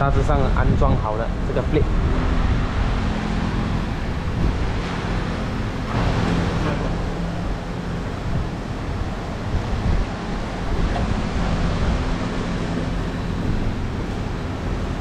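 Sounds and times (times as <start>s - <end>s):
fan rushing air: 0.0s - 15.0s.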